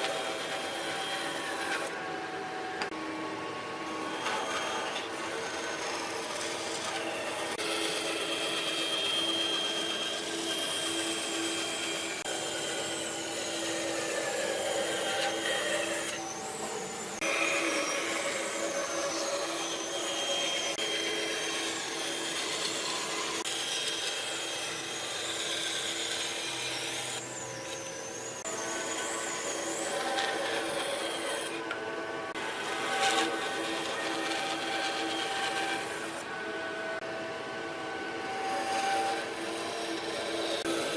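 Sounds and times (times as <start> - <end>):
power tool whining on wood: 0.0 - 40.9.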